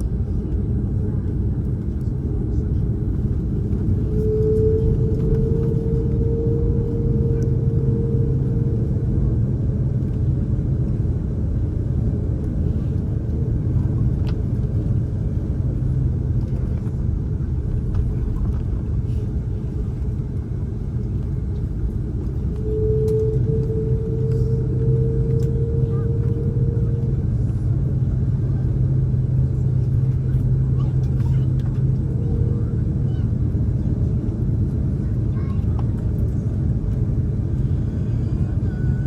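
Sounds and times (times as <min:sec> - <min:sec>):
jet engines rumbling: 0:00.0 - 0:39.0
steady whine: 0:00.0 - 0:39.0.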